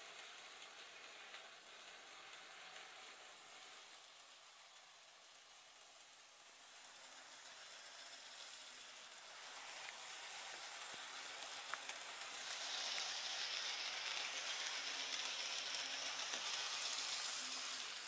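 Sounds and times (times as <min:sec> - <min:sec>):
model train wheels rolling: 0:00.0 - 0:18.0
small electric motor whirr: 0:00.0 - 0:18.0.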